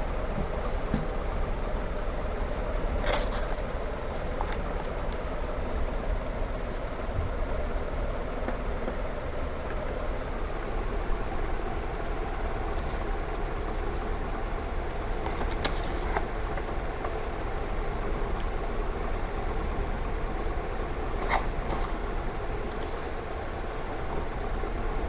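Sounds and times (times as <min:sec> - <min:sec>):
steady background noise: 0:00.0 - 0:25.0.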